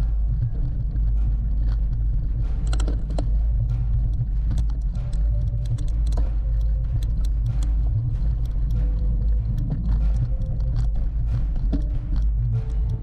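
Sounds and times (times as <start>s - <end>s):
bike clicks and rattles: 0.0s - 13.0s
wind and tyres rumbling: 0.0s - 13.0s.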